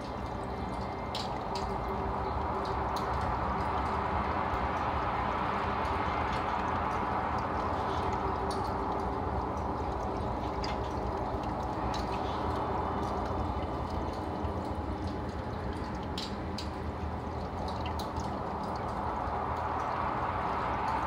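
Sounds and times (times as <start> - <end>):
faint drips: 0.0 - 21.0
low hum: 0.0 - 21.0
water bubbling and trickling: 0.0 - 21.0.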